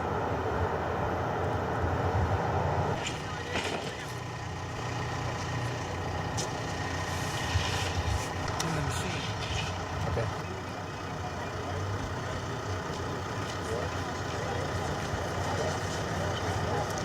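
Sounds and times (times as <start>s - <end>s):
diesel demolition machinery running: 2.4s - 17.0s.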